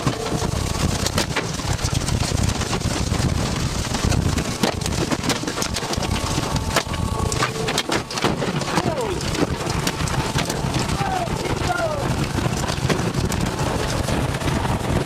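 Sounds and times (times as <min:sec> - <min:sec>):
heavy low rumble: 0:00.0 - 0:15.0
rain and debris pelting vehicle: 0:00.0 - 0:15.0
tornado winds roaring: 0:00.0 - 0:15.0.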